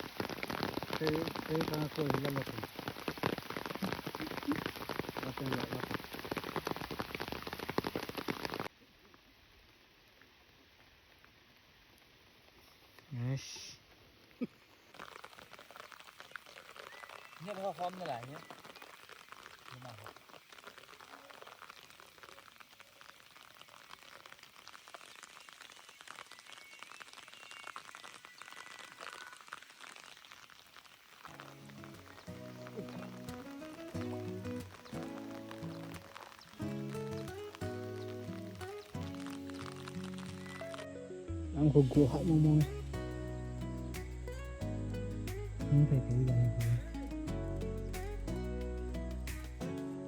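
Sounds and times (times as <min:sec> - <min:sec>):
low hiss: 0:00.0 - 0:50.0
rain on a hard surface: 0:00.0 - 0:50.0.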